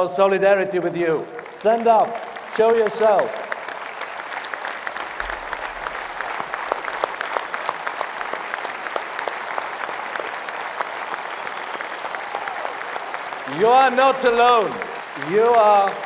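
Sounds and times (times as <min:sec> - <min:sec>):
crowd applauding: 0:00.7 - 0:16.0.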